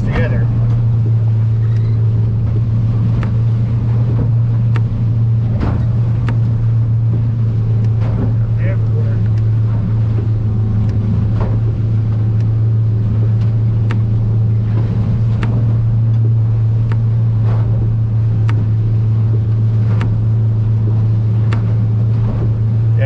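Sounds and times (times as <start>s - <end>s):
boat hull knocking on waves: 0.0s - 23.0s
outboard engine drone: 0.0s - 23.0s.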